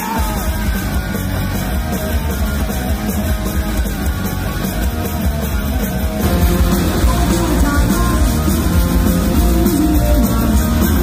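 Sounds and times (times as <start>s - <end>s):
live rock band playing loud: 0.0s - 11.0s.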